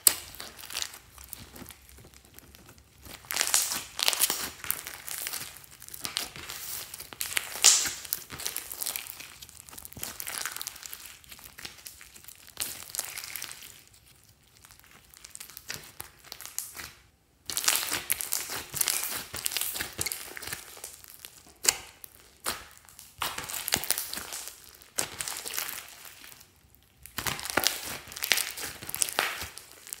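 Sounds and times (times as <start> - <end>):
slime crackling and popping: 0.0 - 30.0.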